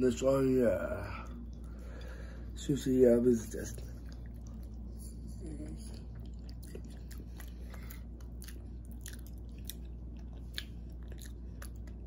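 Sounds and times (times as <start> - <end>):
steady low hum: 0.0 - 12.0
person chewing food: 1.2 - 2.6, 3.5 - 12.0.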